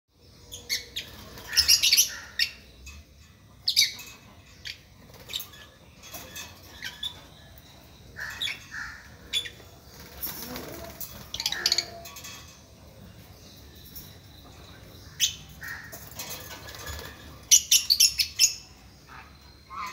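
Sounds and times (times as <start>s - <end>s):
lovebirds chirping: 0.1s - 19.9s.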